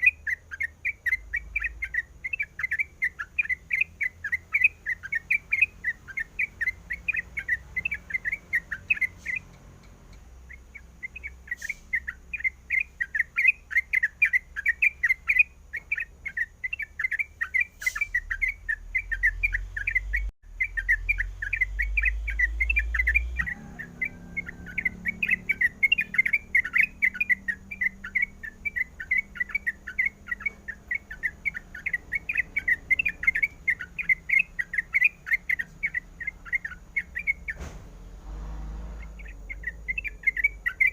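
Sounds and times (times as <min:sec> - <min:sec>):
bird singing bubbly chirps: 0:00.0 - 0:09.5, 0:10.5 - 0:37.6, 0:39.0 - 0:40.9.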